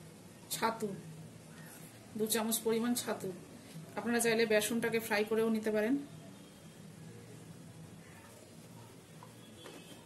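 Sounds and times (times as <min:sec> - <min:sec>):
low steady hiss: 0:00.0 - 0:10.0.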